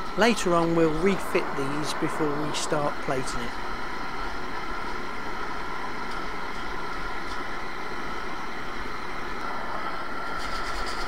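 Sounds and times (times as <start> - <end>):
gas torch burning: 0.0 - 11.0.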